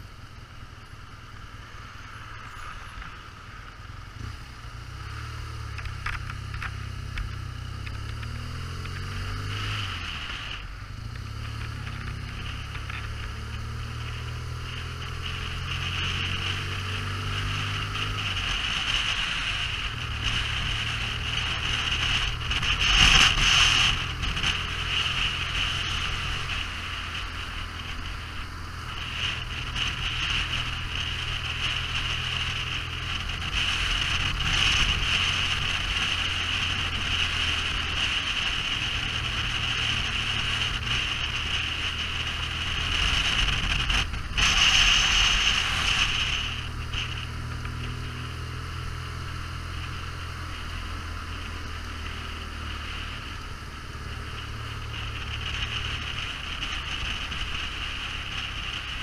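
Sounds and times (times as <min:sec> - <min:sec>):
motorcycle engine running: 0:00.0 - 0:59.0
road noise: 0:00.0 - 0:59.0
wind rush: 0:07.4 - 0:49.0, 0:50.4 - 0:59.0.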